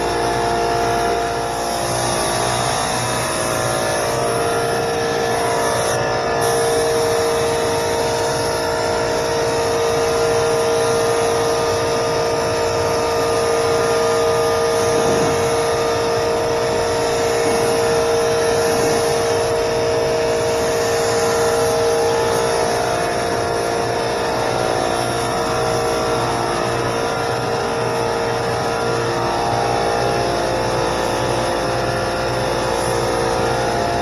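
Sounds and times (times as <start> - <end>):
air compressor running: 0.0 - 34.0.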